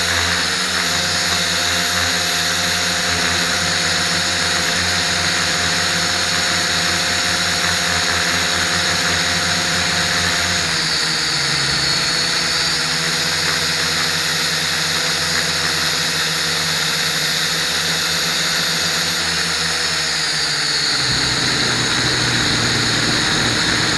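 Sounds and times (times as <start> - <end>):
quadcopter propellers whirring: 0.0 - 23.9.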